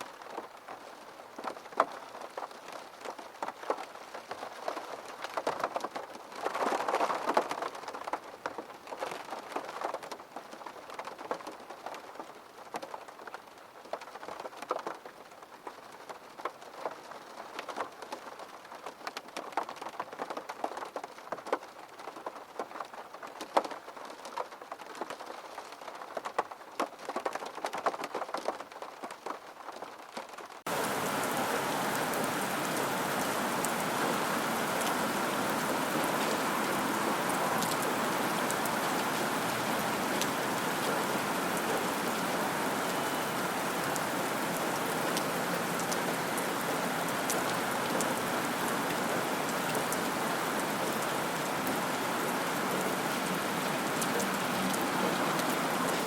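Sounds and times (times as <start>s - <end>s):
rain falling: 0.0s - 56.0s
raindrops striking hard surface: 0.0s - 56.0s.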